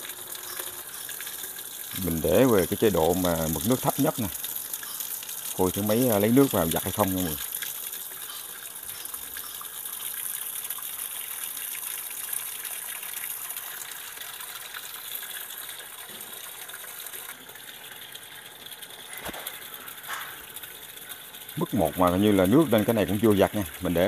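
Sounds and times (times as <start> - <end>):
water pouring into washing machine: 0.0 - 24.0.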